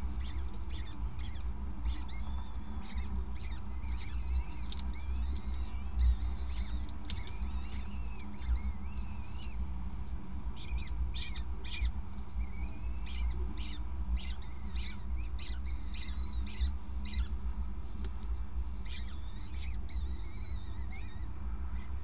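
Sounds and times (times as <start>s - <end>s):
chicks begging calls: 0.0s - 17.5s, 18.8s - 22.0s.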